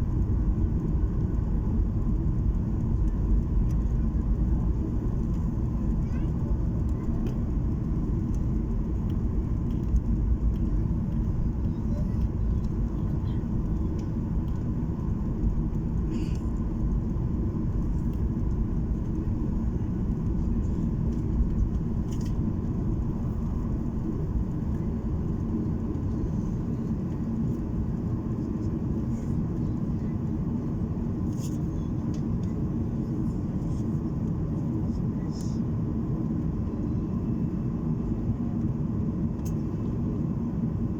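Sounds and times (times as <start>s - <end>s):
airliner engines and rushing air: 0.0s - 40.9s.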